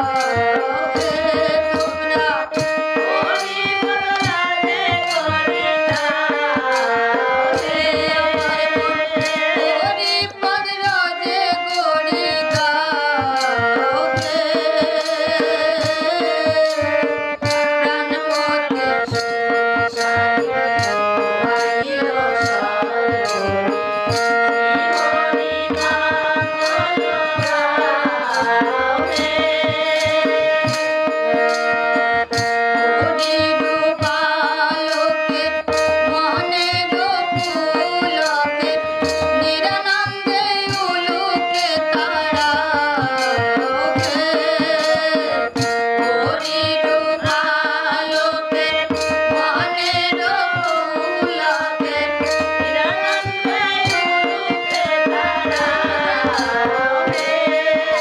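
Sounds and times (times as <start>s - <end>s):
hand drums: 0.0s - 58.0s
person singing: 0.0s - 58.0s.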